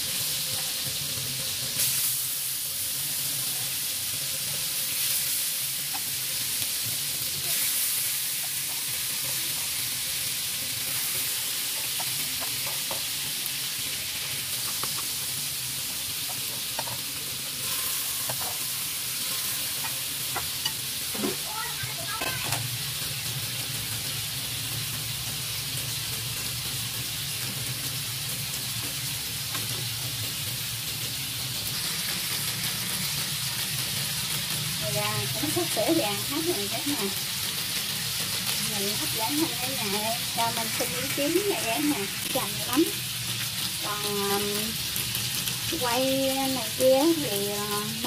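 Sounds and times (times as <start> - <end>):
chicken wings sizzling in butter: 0.0 - 48.0
sharp crackles in hot fat: 0.0 - 48.0.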